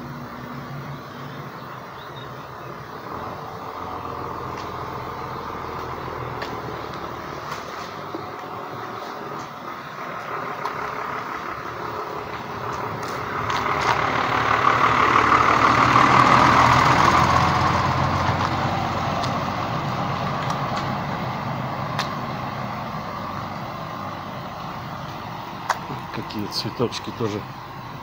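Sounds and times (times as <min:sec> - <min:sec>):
truck driving past: 0:00.0 - 0:28.0.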